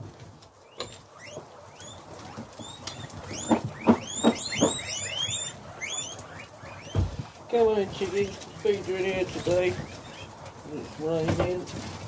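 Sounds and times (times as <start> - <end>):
guinea pigs wheeking: 0.0 - 12.0.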